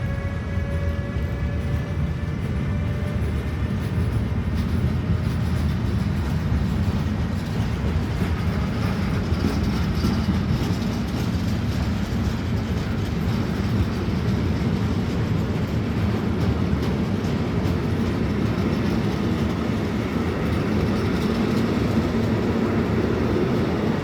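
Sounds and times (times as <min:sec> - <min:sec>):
freight train wagons rumbling: 0:00.0 - 0:24.0.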